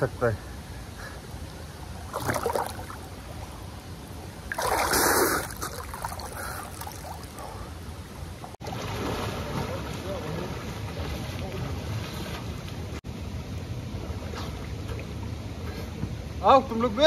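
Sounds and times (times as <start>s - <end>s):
river water flowing: 0.4s - 15.6s.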